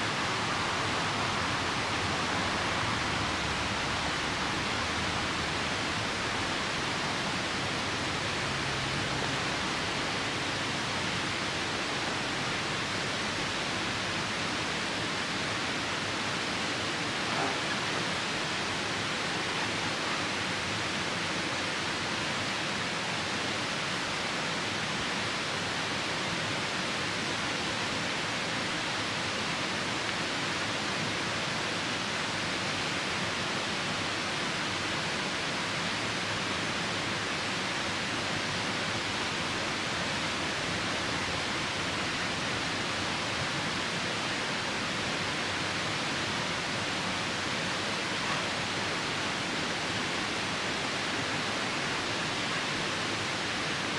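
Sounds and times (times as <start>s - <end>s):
rain falling: 0.0s - 53.9s
river rushing: 0.0s - 53.9s.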